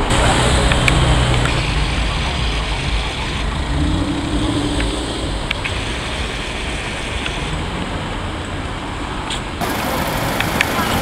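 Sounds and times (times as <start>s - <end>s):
car engine rumbling: 0.0s - 11.0s
street traffic: 0.0s - 11.0s.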